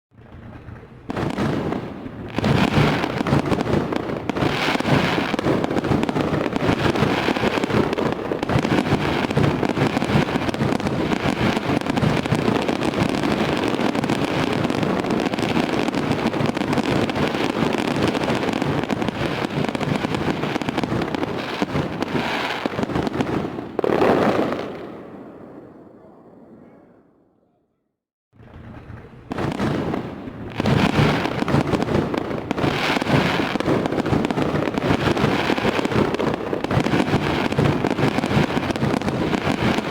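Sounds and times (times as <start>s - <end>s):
fireworks bangs and crackles: 0.1s - 26.8s, 28.4s - 39.9s.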